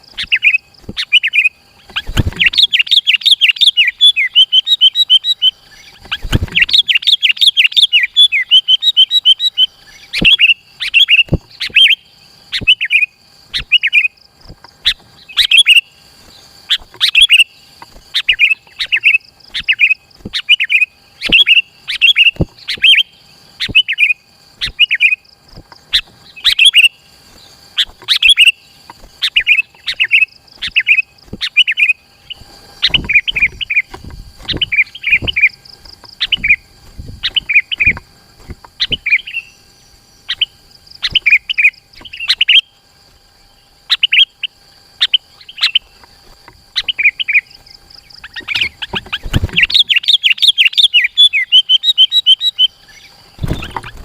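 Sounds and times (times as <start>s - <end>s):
bird singing: 0.0s - 54.0s
rapid chattering bird notes: 0.0s - 54.0s.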